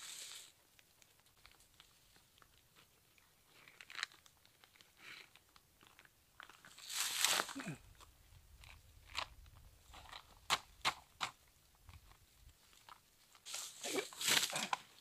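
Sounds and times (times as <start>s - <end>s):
plastic tubing rustling and crinkling: 0.0s - 15.0s.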